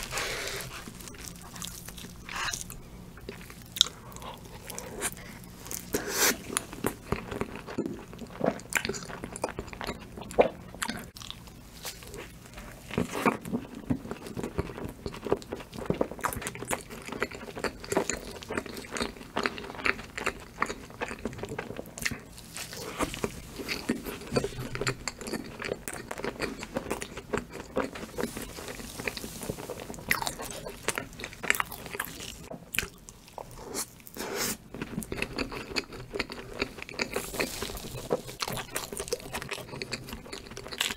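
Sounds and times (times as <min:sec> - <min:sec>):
person chewing and crunching cookie: 0:00.0 - 0:40.9.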